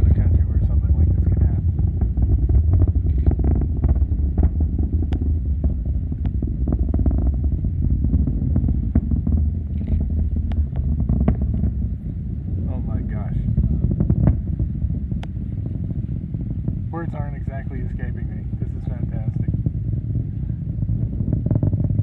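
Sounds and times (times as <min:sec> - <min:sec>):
distant rocket rumbling: 0:00.0 - 0:22.0.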